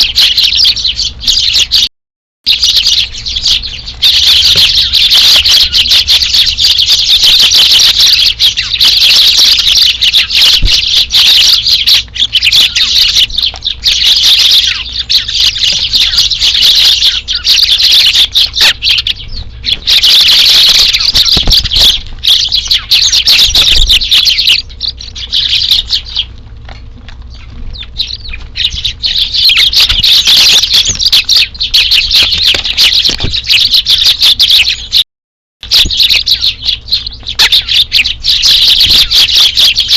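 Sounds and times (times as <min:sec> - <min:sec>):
sparrows chirping: 0:00.0 - 0:01.9, 0:02.5 - 0:35.0, 0:35.6 - 0:39.9.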